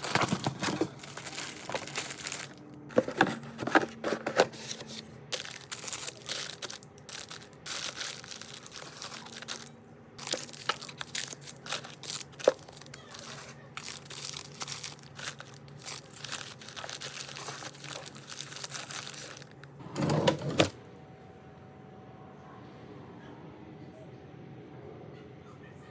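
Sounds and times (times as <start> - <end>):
packaging crinkling and rustling: 0.0 - 20.8.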